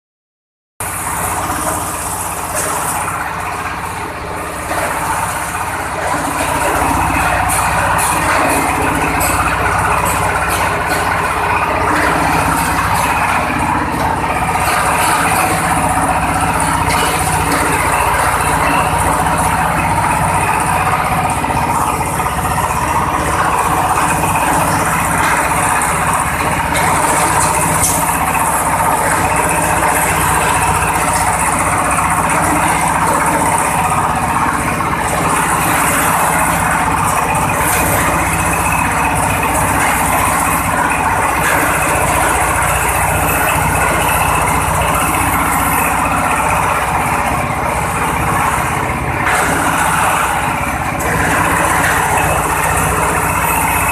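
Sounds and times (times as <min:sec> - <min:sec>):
rotor shredding husks grinding: 0:00.8 - 0:53.9
small engine hum: 0:00.8 - 0:53.9.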